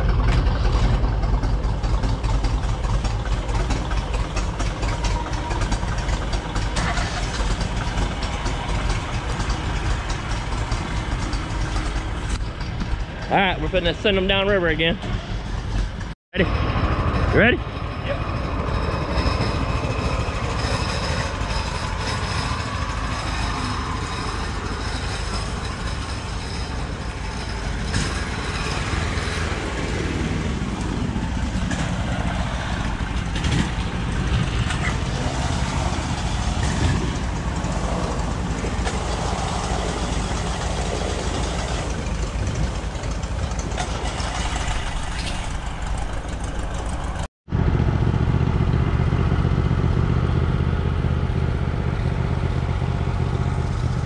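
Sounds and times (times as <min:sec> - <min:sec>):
boat engines running: 0:00.0 - 0:54.0.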